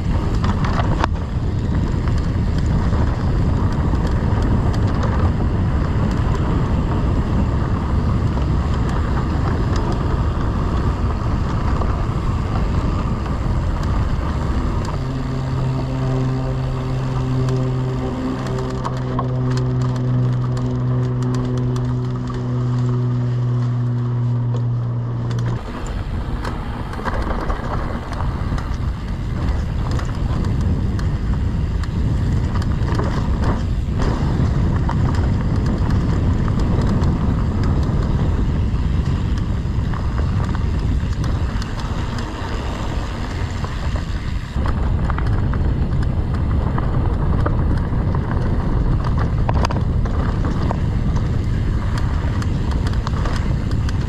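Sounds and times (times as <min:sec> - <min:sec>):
steady buzzing tone: 0:00.0 - 0:46.4
bike rattling over bumps: 0:00.0 - 0:54.0
tyres rumbling on dirt: 0:00.0 - 0:54.0
wind against microphone: 0:00.0 - 0:54.0.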